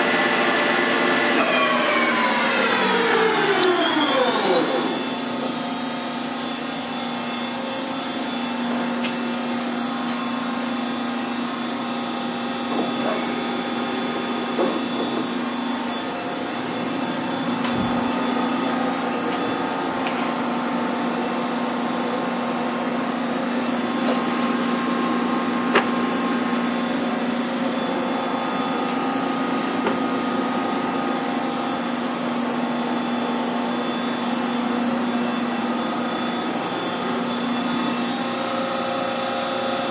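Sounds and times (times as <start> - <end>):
machine hum and whirring: 0.0 - 39.9.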